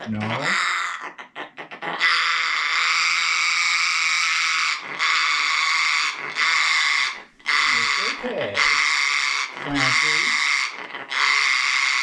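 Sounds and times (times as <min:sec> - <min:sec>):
parrot hissing: 0:01.9 - 0:12.0.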